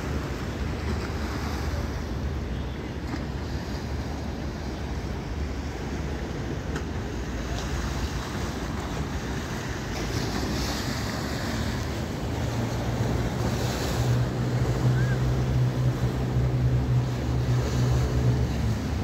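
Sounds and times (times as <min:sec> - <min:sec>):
waves splashing on concrete: 0:00.0 - 0:19.0.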